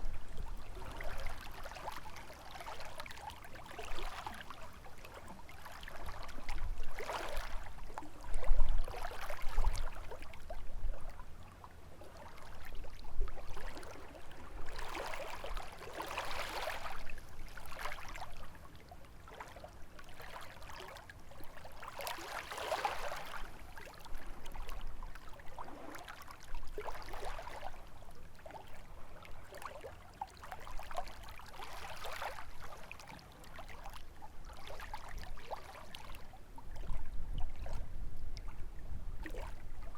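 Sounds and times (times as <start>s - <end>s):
lake waves lapping on shore: 0.0s - 10.4s, 12.0s - 37.8s, 39.2s - 39.9s
low rumble of wind: 0.0s - 39.9s.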